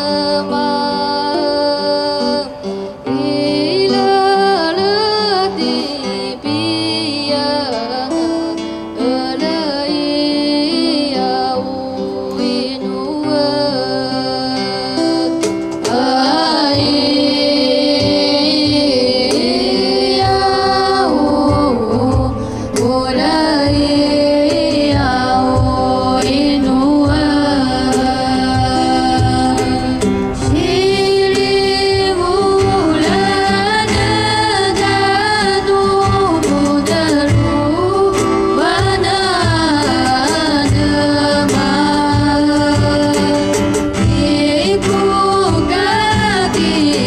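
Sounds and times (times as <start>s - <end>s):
acoustic guitar: 0.0s - 47.0s
voices singing in harmony: 0.0s - 47.0s.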